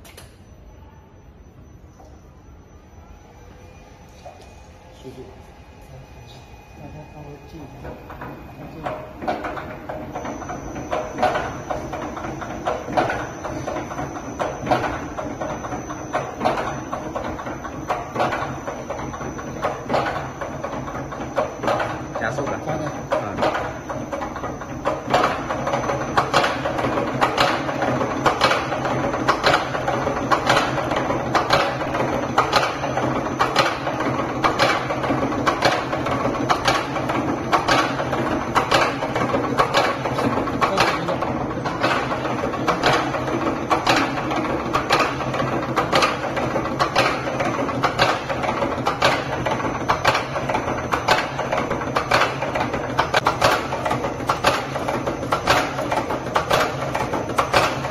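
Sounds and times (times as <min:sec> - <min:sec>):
steady motor hum: 0:00.0 - 0:57.9
mechanical clacking: 0:07.3 - 0:57.9.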